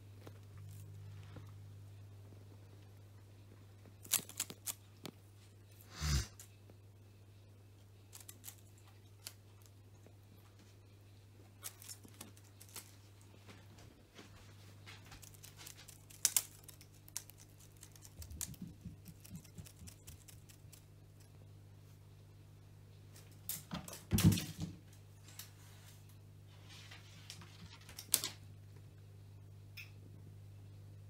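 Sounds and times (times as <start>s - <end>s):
faint steady low hum: 0.0s - 31.0s.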